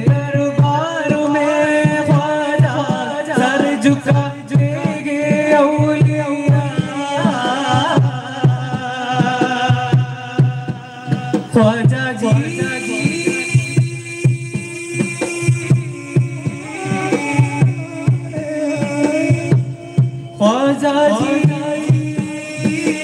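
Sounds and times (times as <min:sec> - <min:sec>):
hand drum beat: 0:00.0 - 0:23.0
men singing together: 0:00.0 - 0:23.0.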